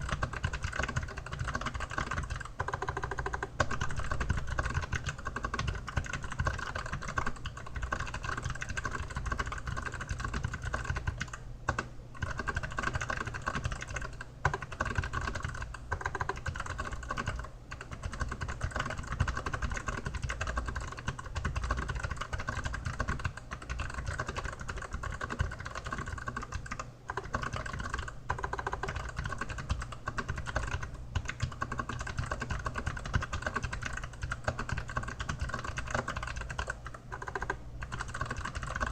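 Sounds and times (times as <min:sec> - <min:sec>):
clicky mechanical keyboard typing: 0:00.0 - 0:38.9.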